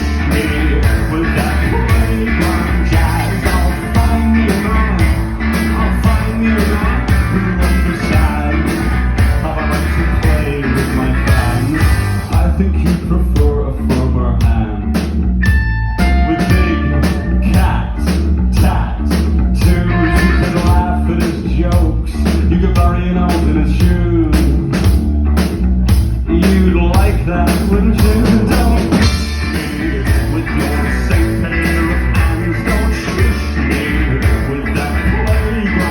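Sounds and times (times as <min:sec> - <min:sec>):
man singing: 0:00.0 - 0:15.0, 0:16.0 - 0:24.9, 0:26.2 - 0:35.9
guitars: 0:00.0 - 0:35.9
live rock band playing: 0:00.0 - 0:35.9
steady drum beat: 0:00.0 - 0:35.9.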